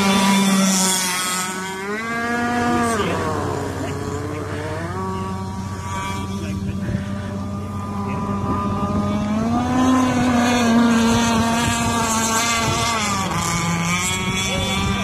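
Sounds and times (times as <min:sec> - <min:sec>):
model boat motor running: 0:00.0 - 0:15.0.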